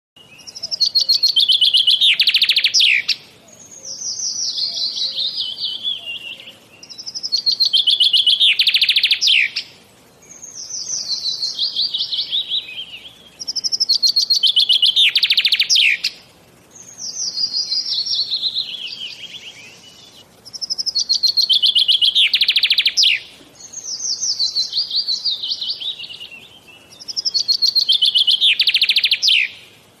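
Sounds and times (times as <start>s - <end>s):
songbird singing: 0.2s - 30.0s.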